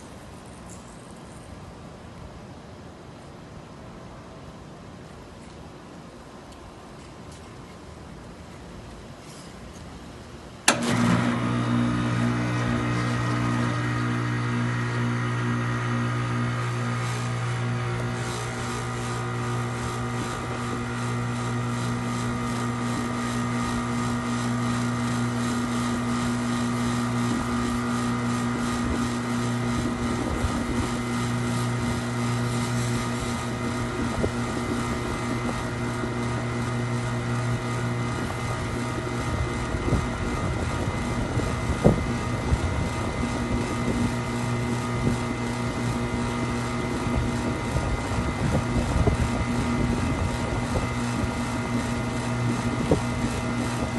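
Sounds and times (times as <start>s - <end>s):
machine humming: 10.7s - 53.9s.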